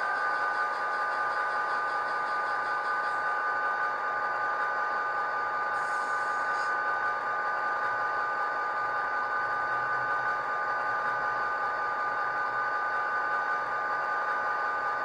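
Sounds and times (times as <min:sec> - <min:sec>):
locomotive engine drone with whine: 0:00.0 - 0:15.0.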